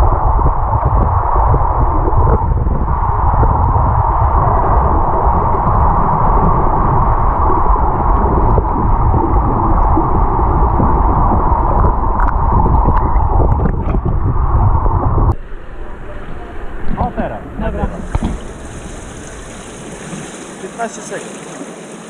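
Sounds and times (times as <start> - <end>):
underwater water rushing: 0.0 - 22.0
water splashing: 0.0 - 22.0.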